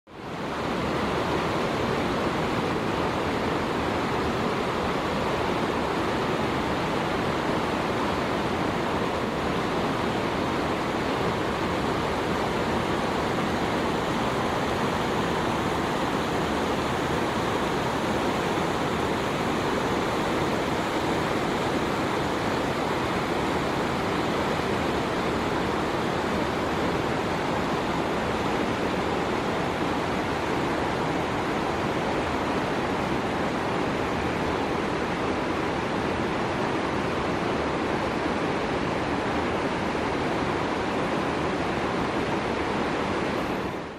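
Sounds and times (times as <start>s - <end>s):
stream rushing over boulders: 0.1s - 43.9s.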